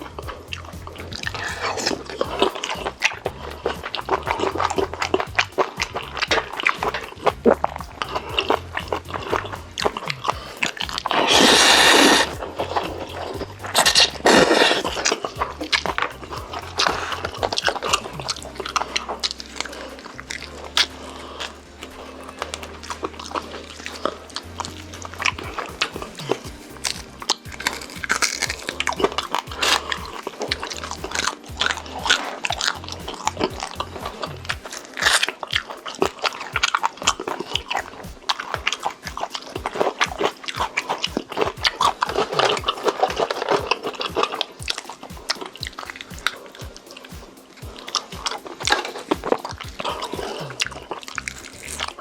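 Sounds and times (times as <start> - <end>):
wet chewing: 0.0 - 52.0.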